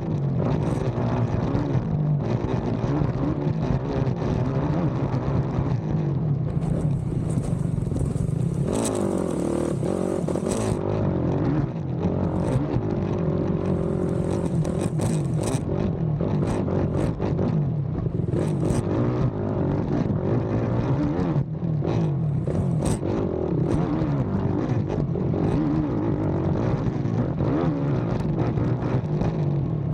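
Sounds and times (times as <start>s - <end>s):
quad bike engine at full throttle: 0.0s - 29.9s.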